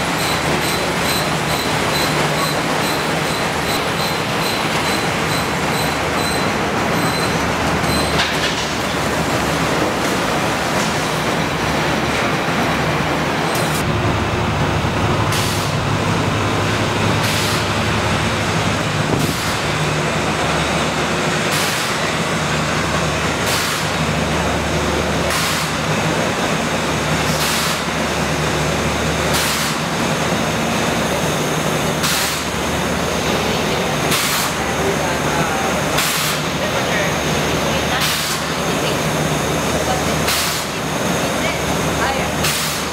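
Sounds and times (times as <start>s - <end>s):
factory machinery humming: 0.0s - 42.9s.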